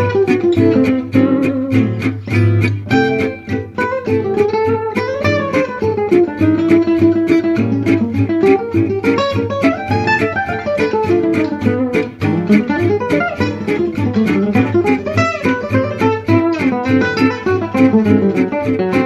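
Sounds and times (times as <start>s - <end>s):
acoustic guitar lead lines: 0.0s - 19.0s
rhythm guitar strumming chords: 0.0s - 19.0s.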